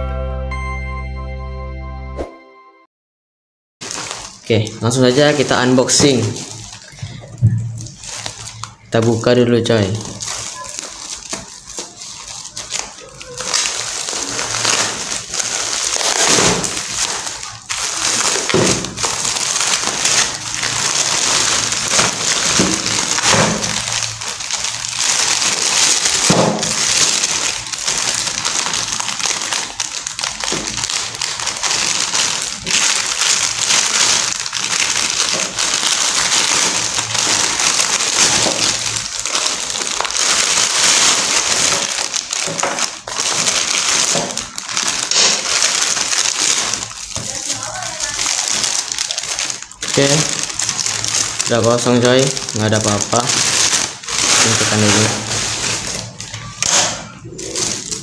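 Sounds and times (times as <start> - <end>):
plastic bags crinkling: 3.8 - 58.0.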